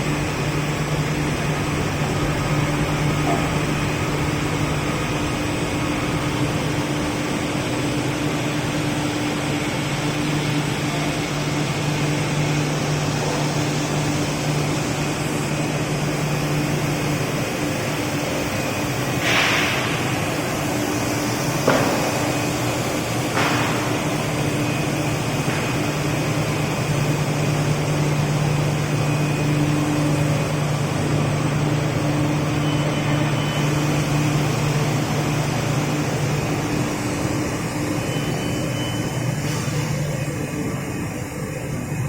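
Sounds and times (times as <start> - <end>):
machine drone with low hum: 0.0 - 42.0.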